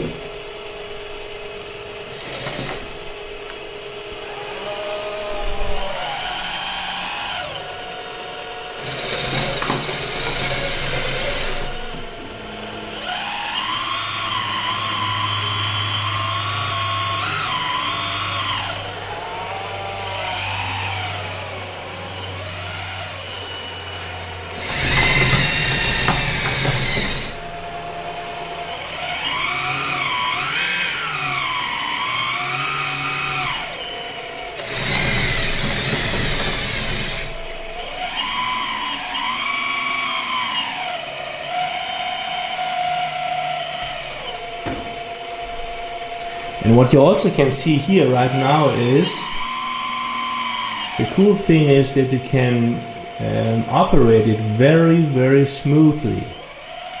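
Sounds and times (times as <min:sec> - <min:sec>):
hydraulic pump whining: 0:00.0 - 0:57.0.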